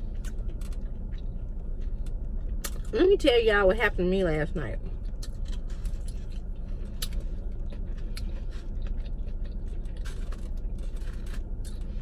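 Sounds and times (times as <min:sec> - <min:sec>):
person chewing crunchy food: 0:00.0 - 0:02.9, 0:05.0 - 0:12.0
steady low hum: 0:00.0 - 0:12.0.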